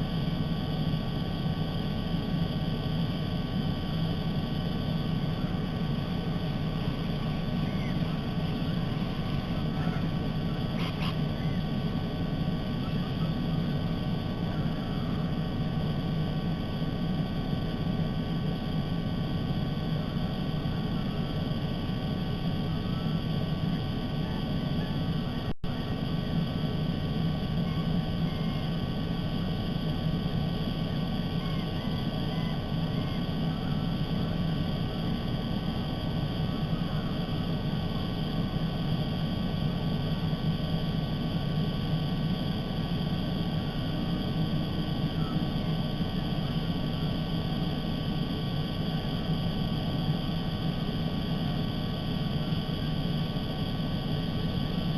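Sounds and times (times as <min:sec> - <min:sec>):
low outdoor rumble: 0:00.0 - 0:54.9.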